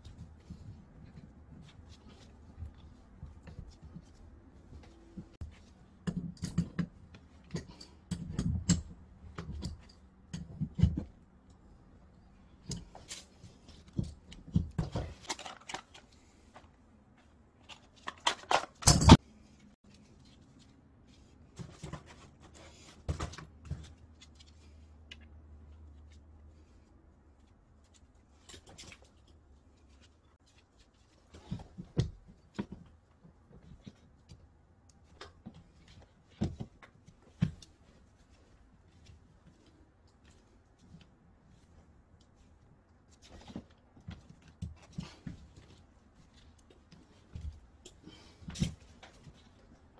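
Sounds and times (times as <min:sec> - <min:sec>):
rustling of clothing and packaging: 0:00.0 - 0:08.1, 0:08.9 - 0:49.9.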